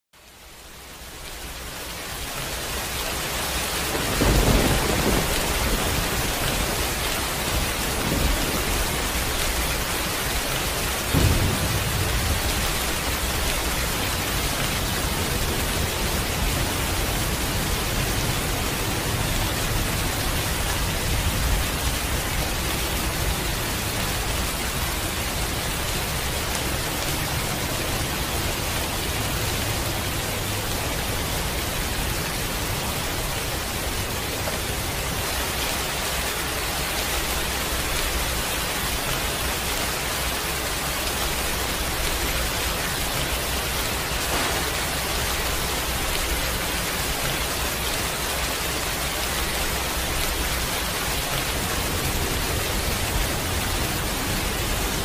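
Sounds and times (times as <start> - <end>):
heavy rain pouring: 0.2 - 55.0.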